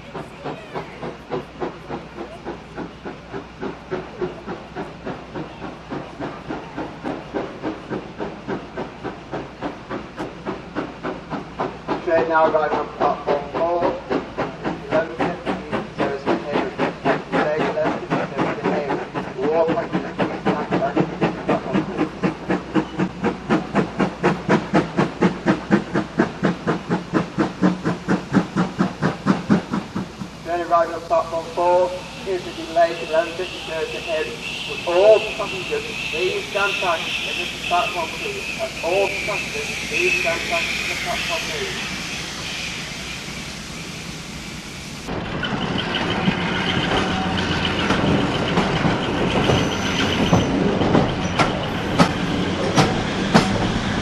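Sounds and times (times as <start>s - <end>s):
hiss of steam: 0.0s - 54.0s
steam locomotive exhaust beats: 0.0s - 54.0s.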